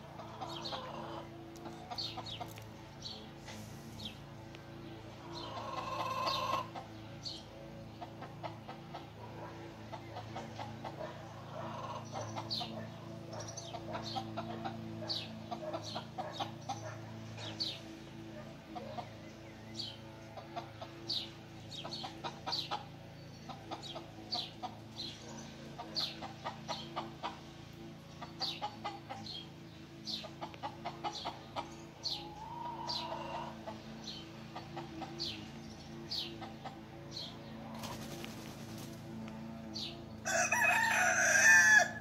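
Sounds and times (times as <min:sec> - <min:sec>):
chicken clucking: 0:00.0 - 0:03.6, 0:04.8 - 0:42.0
steady low hum: 0:00.0 - 0:40.3
small birds chirping: 0:00.0 - 0:42.0.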